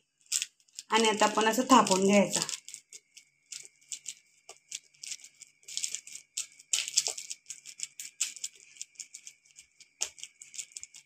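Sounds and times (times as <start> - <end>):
fingertips patting dough: 0.2 - 11.0.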